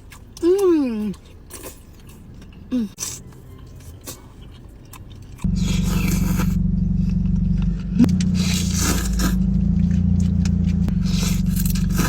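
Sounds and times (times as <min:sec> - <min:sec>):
car engine rumble: 0:01.8 - 0:12.0.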